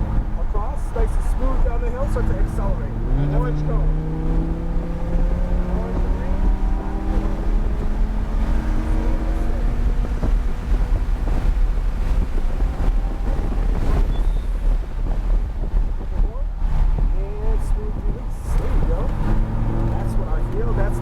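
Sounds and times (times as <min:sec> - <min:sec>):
car engine under load: 0:00.0 - 0:21.0
wind and road rumble: 0:00.0 - 0:21.0.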